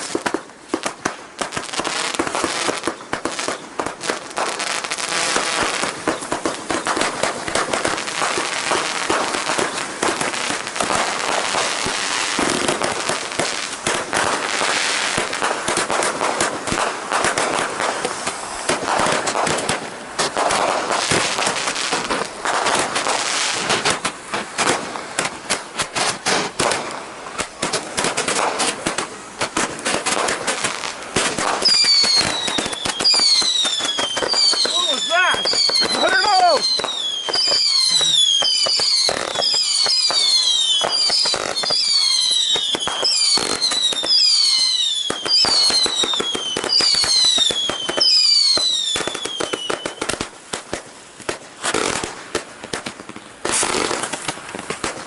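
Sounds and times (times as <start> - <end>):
fireworks bangs and crackling: 0.0 - 55.0
roman candles firing: 0.0 - 55.0.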